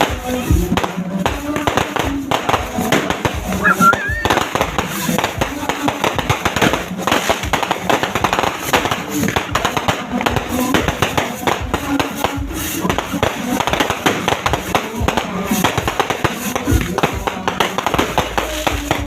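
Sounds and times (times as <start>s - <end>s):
fireworks and firecrackers crackling: 0.0s - 19.0s.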